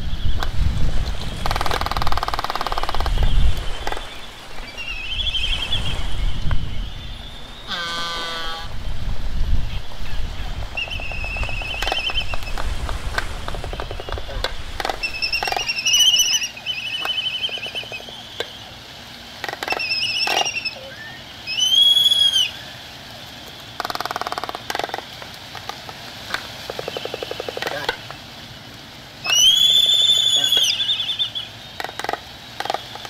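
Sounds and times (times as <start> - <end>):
albatrosses calling: 1.4 - 6.0, 7.6 - 8.8, 10.0 - 12.6, 13.4 - 18.8, 19.4 - 22.9, 23.6 - 33.0.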